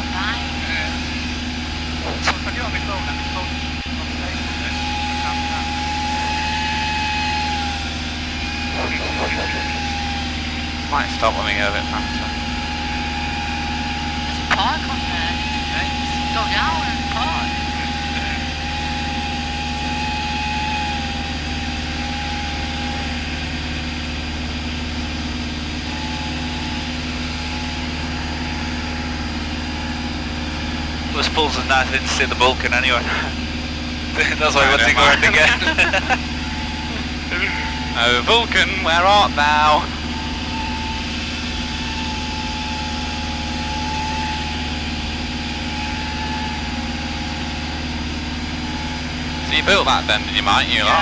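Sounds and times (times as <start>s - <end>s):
airplane engine and propeller droning: 0.0s - 51.0s
thin steady whine: 0.0s - 51.0s.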